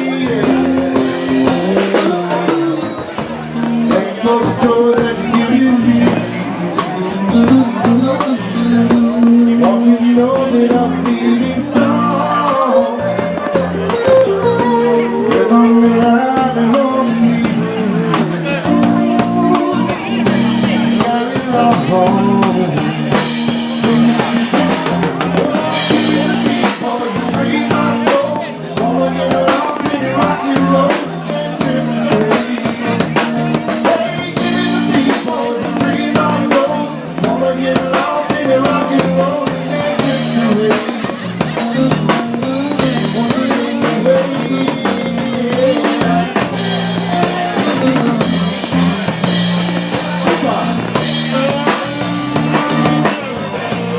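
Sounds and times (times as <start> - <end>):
music with drums and bass: 0.0 - 53.9.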